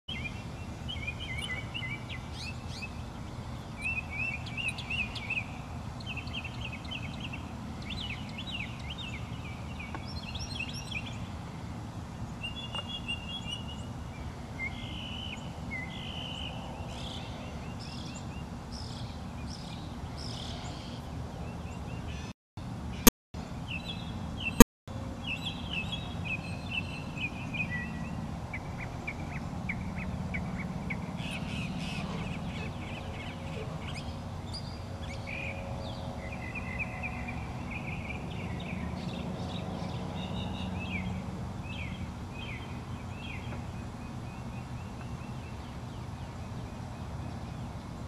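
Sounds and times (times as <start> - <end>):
birds chirping and trilling: 0.1 - 11.6, 12.2 - 22.3, 25.2 - 47.9.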